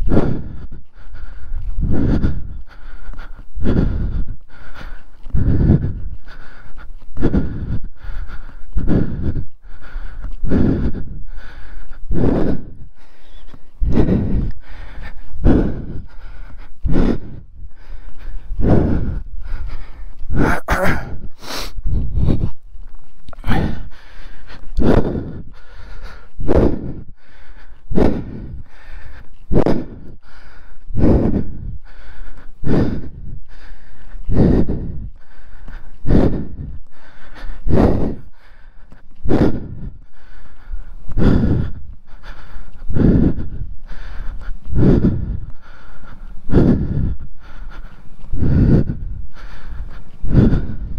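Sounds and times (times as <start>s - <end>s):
person breathing hard: 0.0s - 50.9s.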